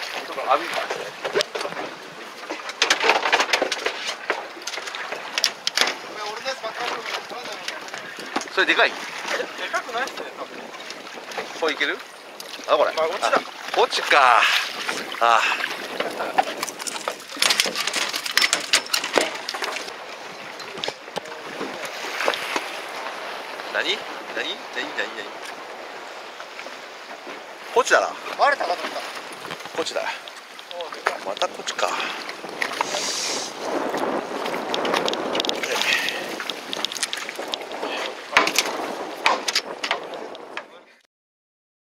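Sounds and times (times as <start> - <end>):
water sloshing against boat hull: 0.0 - 40.9
wind noise: 0.0 - 41.0.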